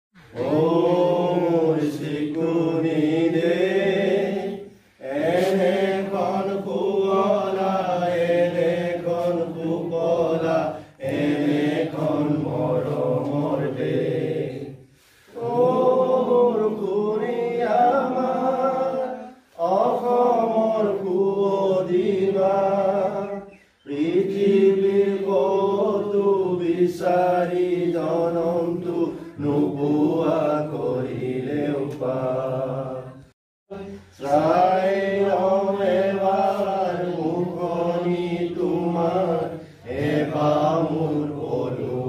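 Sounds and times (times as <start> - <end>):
men singing an anthem: 0.2 - 33.1, 33.7 - 42.0.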